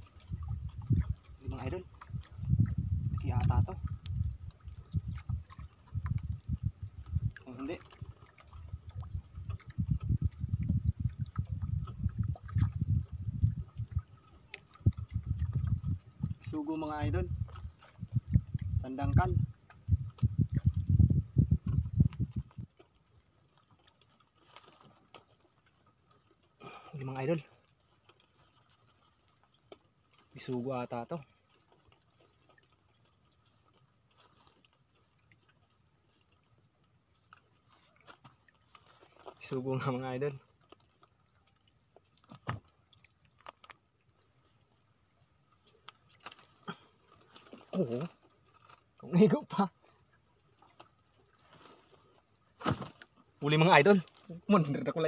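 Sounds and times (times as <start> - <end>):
small water splashes: 0.0 - 55.0
water lapping against boat hull: 0.0 - 55.0.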